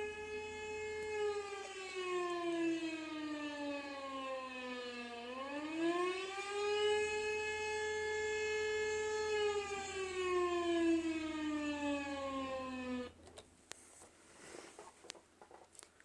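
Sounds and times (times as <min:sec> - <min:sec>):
siren wailing: 0:00.0 - 0:13.2.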